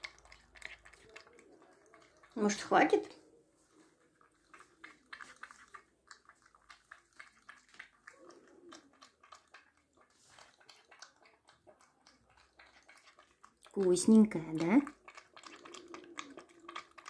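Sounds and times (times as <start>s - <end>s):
cat lapping milk: 0.0s - 17.0s.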